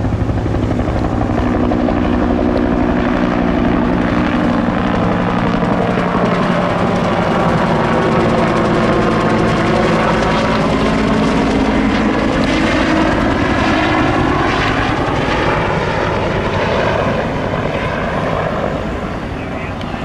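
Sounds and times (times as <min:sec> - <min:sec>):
helicopter flying past: 0:00.0 - 0:20.0.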